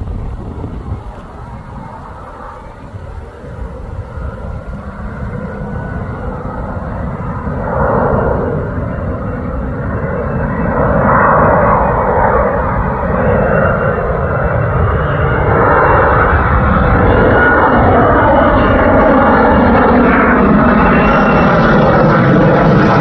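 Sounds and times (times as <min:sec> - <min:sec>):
faint high jet whine: 0:00.0 - 0:23.0
fighter jet engine rumble: 0:00.0 - 0:23.0.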